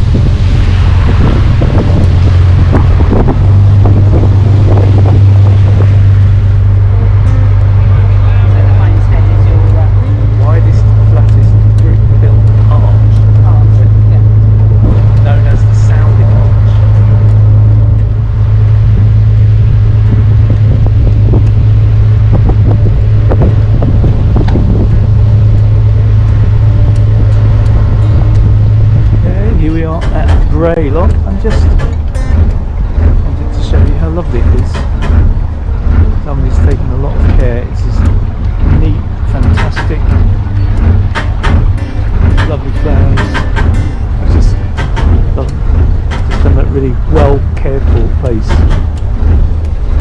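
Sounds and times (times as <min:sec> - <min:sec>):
boat engine humming: 0:00.0 - 0:50.0
wind buffeting microphone: 0:00.0 - 0:50.0.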